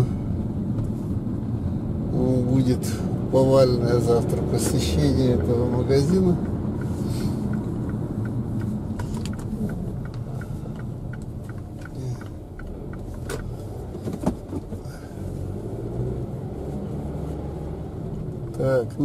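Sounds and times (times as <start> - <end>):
engine and tyre rumble: 0.0 - 19.0
turn indicator ticking: 3.1 - 19.0.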